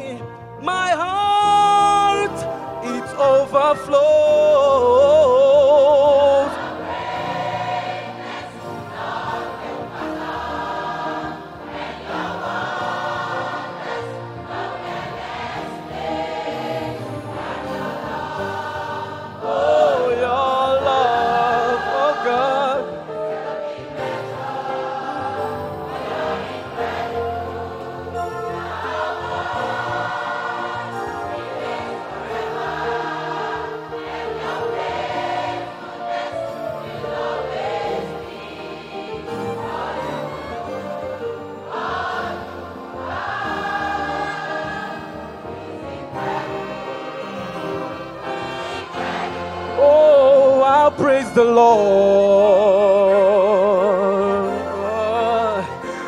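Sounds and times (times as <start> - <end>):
choir singing gospel song: 0.0 - 56.0
orchestra playing: 0.0 - 56.0.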